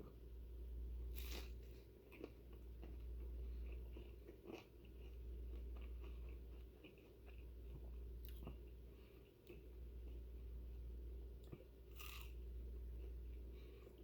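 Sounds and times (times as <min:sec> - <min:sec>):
steady low hum: 0:00.0 - 0:14.0
chewing with small crunches: 0:01.0 - 0:14.0.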